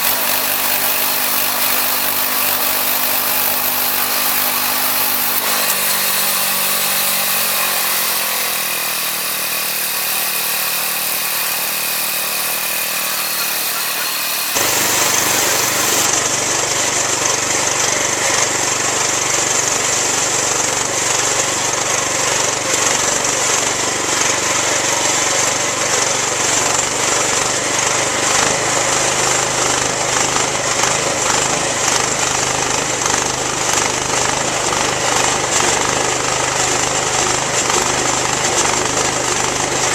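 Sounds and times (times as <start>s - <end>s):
band sawmill sawing a log: 0.0s - 39.9s.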